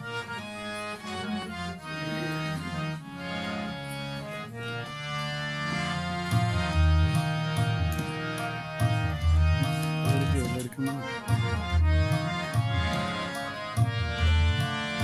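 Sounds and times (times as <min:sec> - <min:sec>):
harmonium playing: 0:00.0 - 0:15.0.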